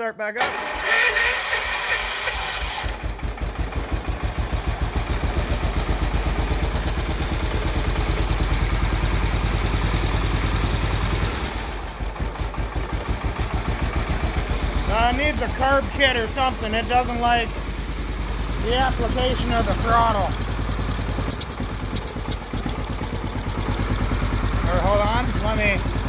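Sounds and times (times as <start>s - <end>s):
tractor engine pulsing exhaust: 0.4s - 26.0s.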